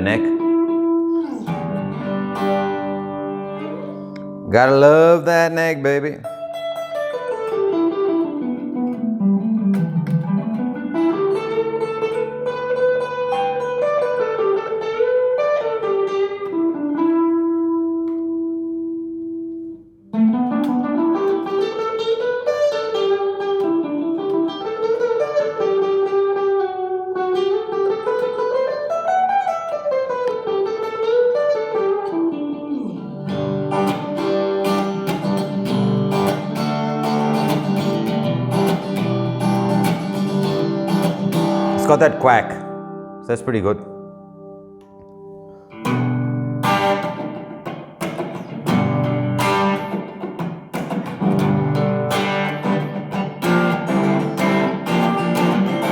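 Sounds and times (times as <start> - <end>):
clean electric guitar: 0.0 - 55.9.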